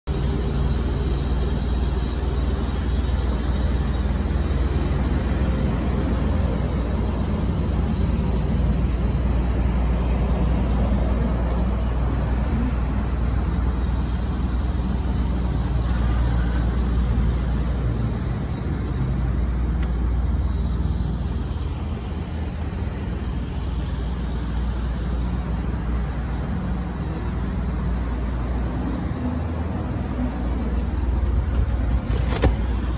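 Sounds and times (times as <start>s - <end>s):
traffic rumble: 0.0s - 32.9s
faint engine-like hum: 0.1s - 32.9s.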